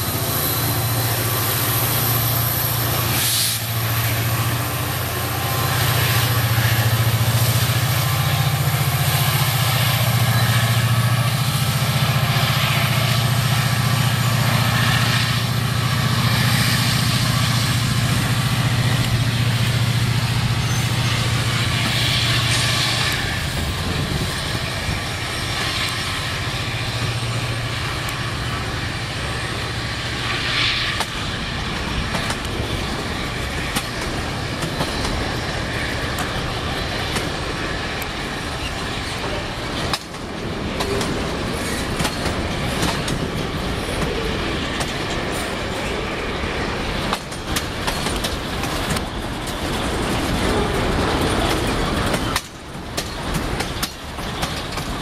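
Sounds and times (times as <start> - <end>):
diesel locomotive engine rumble: 0.0 - 55.0
freight cars rolling: 0.0 - 55.0
wheels clanking on rails: 0.0 - 55.0.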